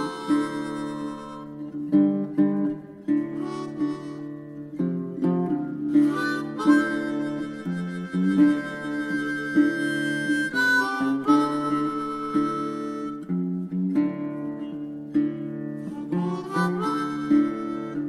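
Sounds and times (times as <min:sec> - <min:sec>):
acoustic guitar: 0:00.0 - 0:18.0
harmonica: 0:00.0 - 0:18.0.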